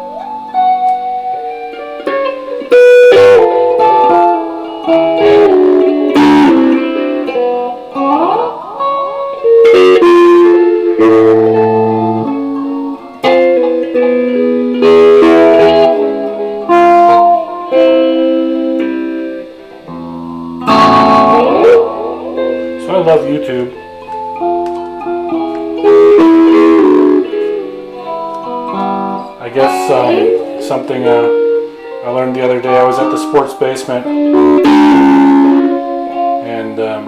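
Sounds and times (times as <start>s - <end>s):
electric guitar notes and chords: 0.0s - 37.0s.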